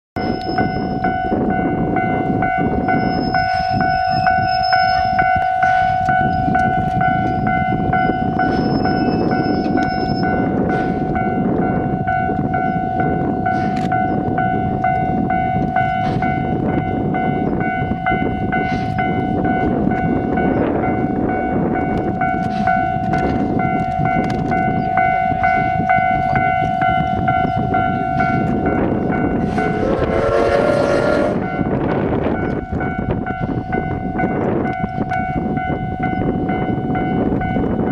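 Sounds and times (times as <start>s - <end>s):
level-crossing warning bell: 0.2s - 37.9s
steam locomotive rumble: 0.2s - 37.9s.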